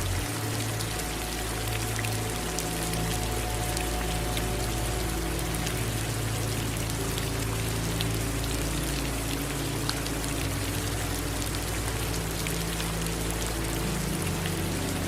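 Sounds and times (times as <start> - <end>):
low steady drone: 0.0 - 15.0
rain falling: 0.0 - 15.0.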